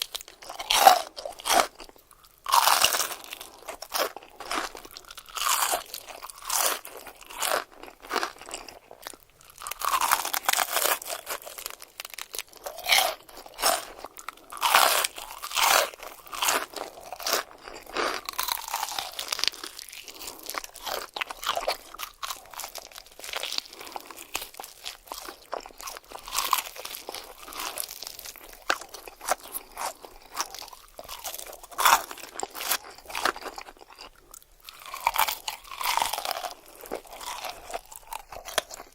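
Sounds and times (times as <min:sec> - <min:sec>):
crunchy food chewing: 0:00.0 - 0:38.9.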